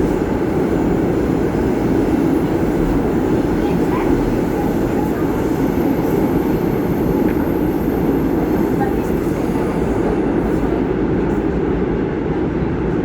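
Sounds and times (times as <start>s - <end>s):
subway train running: 0.0s - 13.0s.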